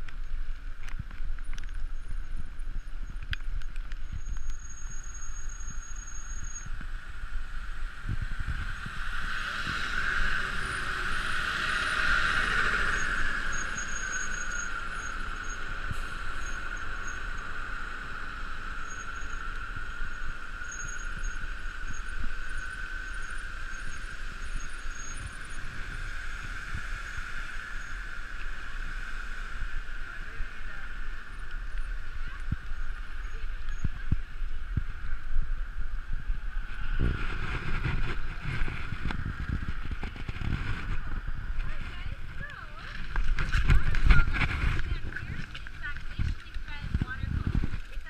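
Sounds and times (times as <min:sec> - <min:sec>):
bicycle wheels whirring: 0:00.0 - 0:48.0
wind rumble on microphone: 0:00.0 - 0:48.0.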